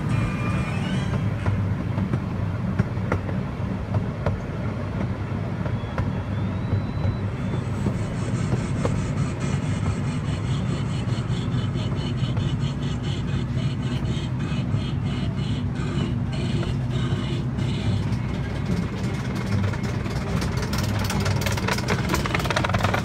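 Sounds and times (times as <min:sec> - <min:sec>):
low rumble of train wheels: 0:00.0 - 0:23.0.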